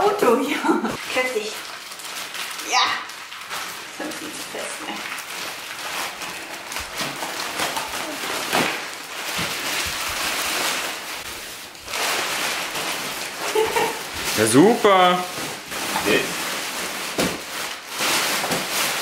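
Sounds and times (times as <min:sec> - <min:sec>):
plastic film crinkling: 0:00.0 - 0:19.0.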